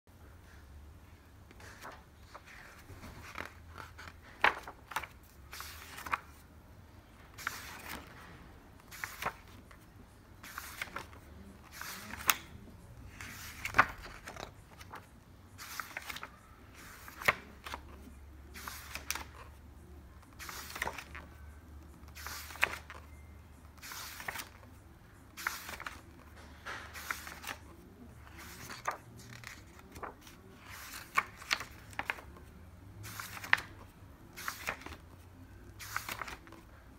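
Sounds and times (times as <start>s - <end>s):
book pages turning: 1.5s - 6.5s, 7.3s - 19.6s, 20.2s - 36.8s.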